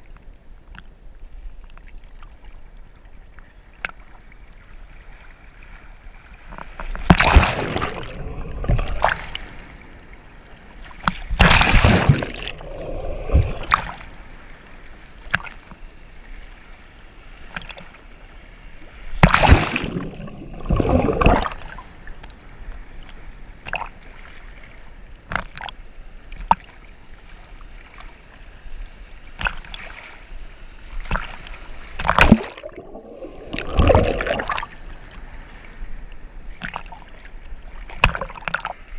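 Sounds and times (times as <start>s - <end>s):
waves rushing and splashing: 5.0s - 25.7s, 26.4s - 38.9s.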